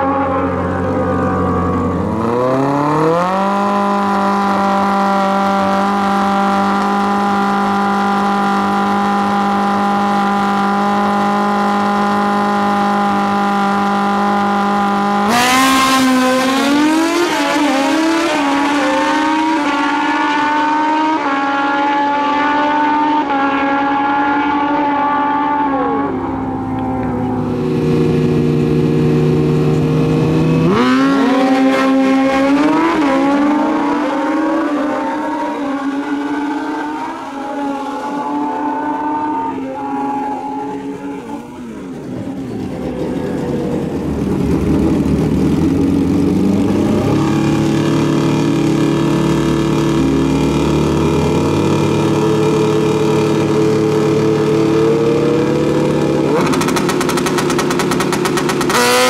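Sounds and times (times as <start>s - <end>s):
motorcycle engines revving: 0.0s - 59.0s
motorcycles accelerating hard: 0.0s - 59.0s.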